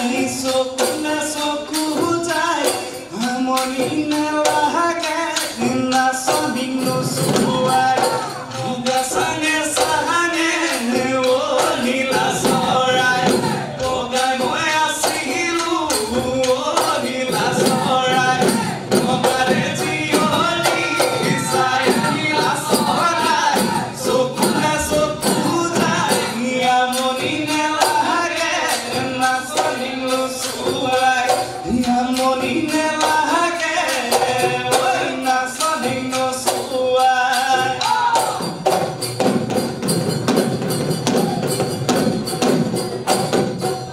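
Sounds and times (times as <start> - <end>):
man singing: 0.0 - 38.9
drums beaten in fast rhythm: 0.0 - 43.9
hand cymbals jingling: 0.0 - 43.9.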